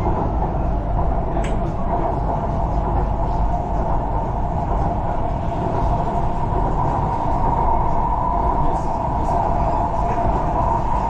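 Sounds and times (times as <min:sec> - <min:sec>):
train rumble: 0:00.0 - 0:11.0
train whine: 0:00.0 - 0:11.0.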